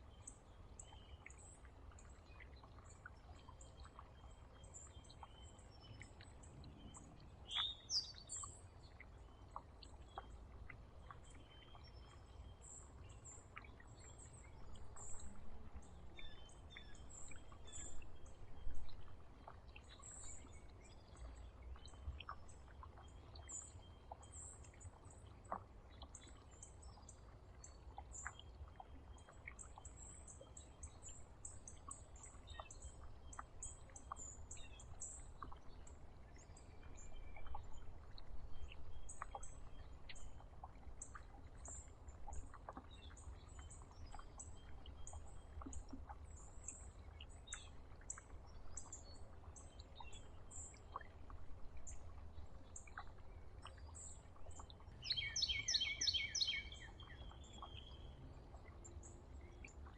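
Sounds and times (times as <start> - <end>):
small songbirds chirping: 0.0 - 59.9.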